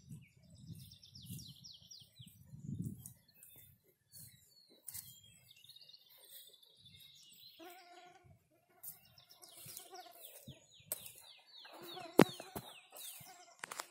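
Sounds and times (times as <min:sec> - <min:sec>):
songbirds singing: 0:00.0 - 0:13.9.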